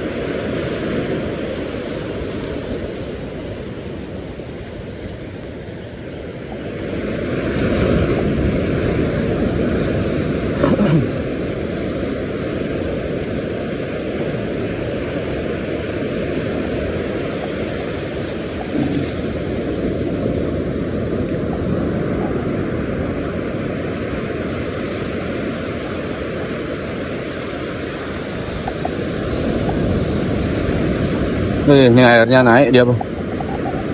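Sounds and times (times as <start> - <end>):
surf on beach: 0.0 - 33.9
wind on microphone: 0.0 - 33.9.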